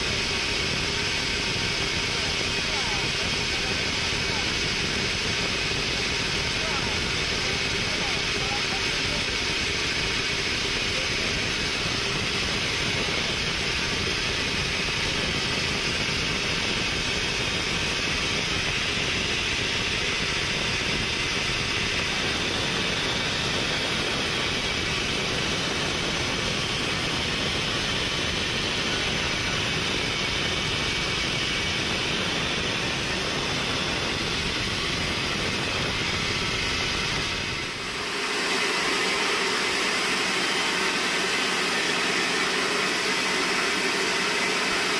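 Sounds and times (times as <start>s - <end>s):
band sawmill cutting log: 0.0s - 44.9s.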